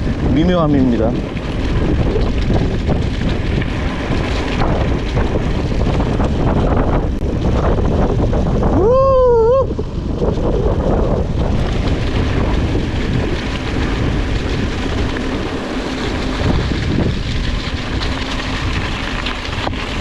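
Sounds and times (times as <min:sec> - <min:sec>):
bike tyres rolling on gravel: 0:00.0 - 0:20.0
wind buffeting microphone: 0:00.0 - 0:20.0.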